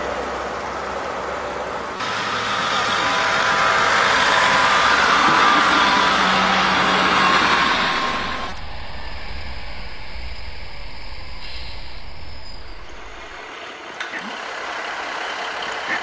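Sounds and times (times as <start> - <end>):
distant diesel train hum: 0.0 - 16.0
train passing close by: 0.0 - 16.0.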